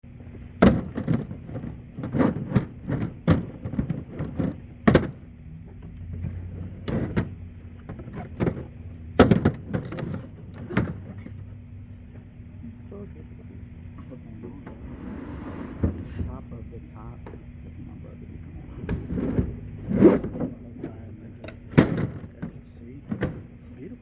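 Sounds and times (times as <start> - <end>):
steady low hum: 0.0 - 24.0
irregular knocks and thuds: 0.1 - 12.3, 13.4 - 23.7.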